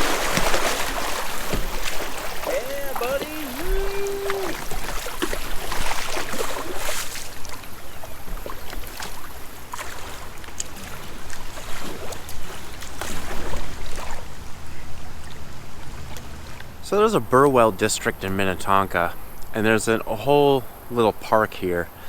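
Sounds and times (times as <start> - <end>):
kayak paddle splashing: 0.0 - 20.2
creek water washing: 0.0 - 22.0.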